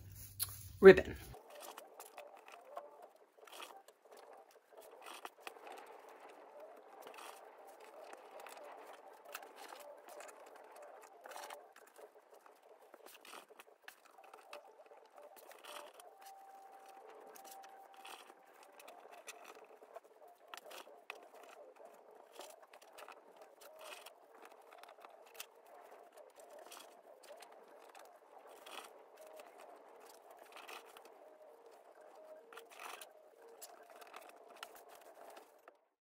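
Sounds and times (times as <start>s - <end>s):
plastic mesh crinkling: 1.3s - 35.7s.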